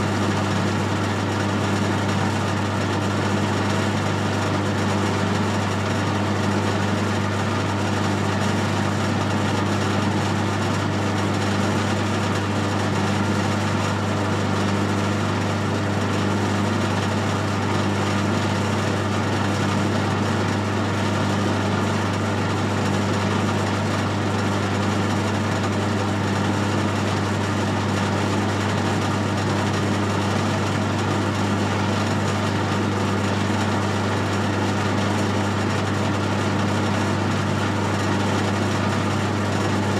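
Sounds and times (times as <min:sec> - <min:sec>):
lathe motor hum: 0:00.0 - 0:39.9.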